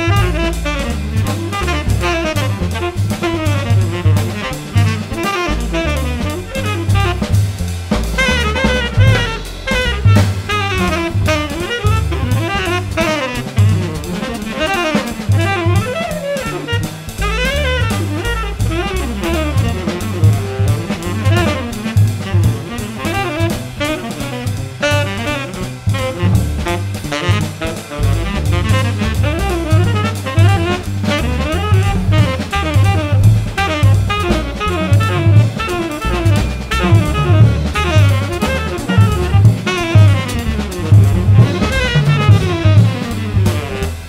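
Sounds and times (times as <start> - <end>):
drum kit with ringing cymbals: 0.0 - 44.0
plucked double bass: 0.0 - 44.0
tenor saxophone melody: 0.0 - 44.0.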